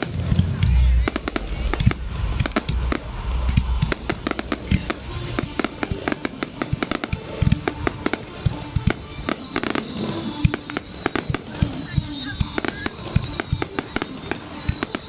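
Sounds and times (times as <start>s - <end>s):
fireworks cracking and banging: 0.0s - 15.0s
music playing: 0.0s - 15.0s.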